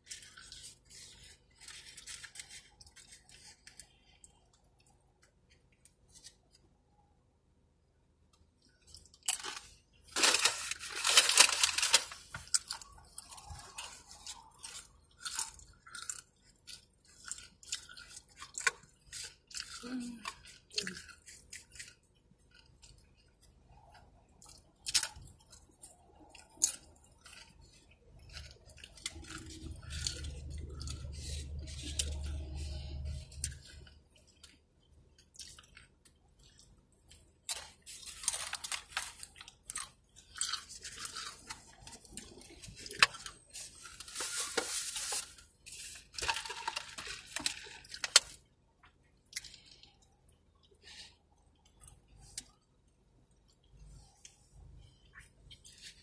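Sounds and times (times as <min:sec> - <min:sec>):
chewing and crunching chips: 0:00.0 - 0:07.0, 0:08.2 - 0:56.0.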